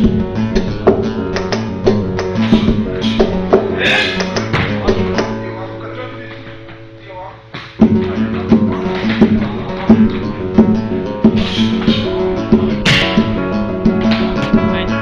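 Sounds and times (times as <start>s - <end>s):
percussion beat: 0.0s - 5.4s, 7.6s - 15.0s
guitar instrumental music: 0.0s - 15.0s.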